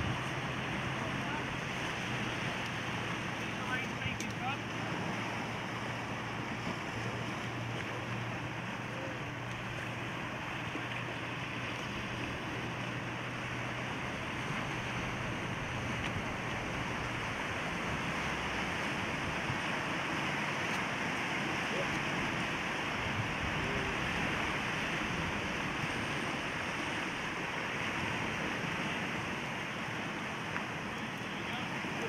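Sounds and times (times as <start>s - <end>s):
outboard motor humming: 0.0s - 32.0s.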